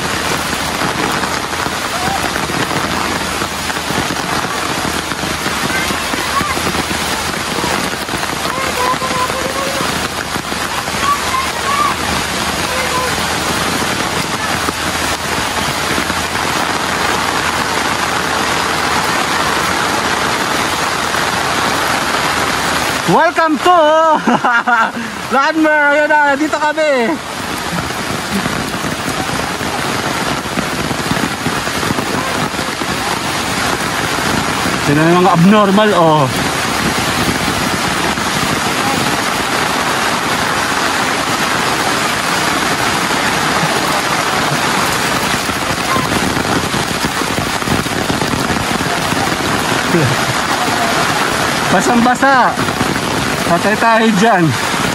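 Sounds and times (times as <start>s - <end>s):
heavy rain: 0.0s - 54.9s.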